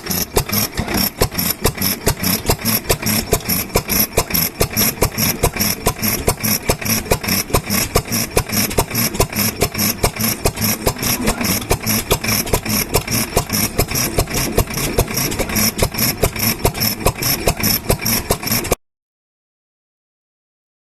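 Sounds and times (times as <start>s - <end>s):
stationary engine exhaust beat: 0.0s - 18.8s.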